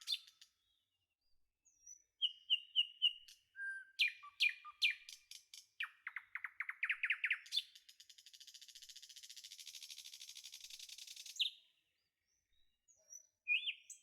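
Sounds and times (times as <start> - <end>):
songbird singing: 0.0 - 0.8, 1.7 - 8.2, 9.2 - 14.0.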